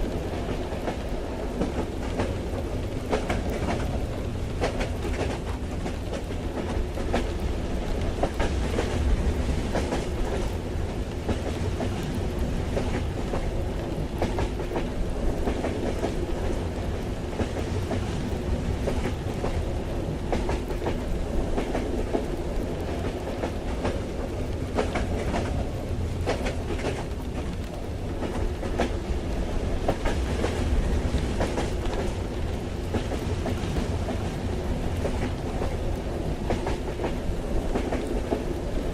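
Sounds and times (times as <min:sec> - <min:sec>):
train rumbling on track: 0:00.0 - 0:38.9.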